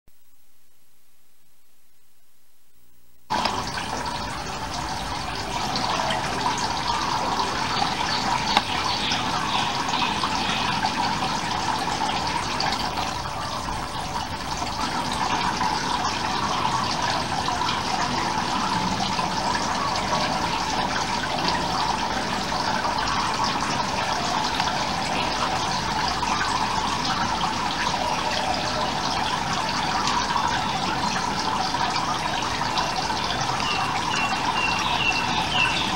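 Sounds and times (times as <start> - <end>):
aquarium water splashing: 3.3 - 35.9.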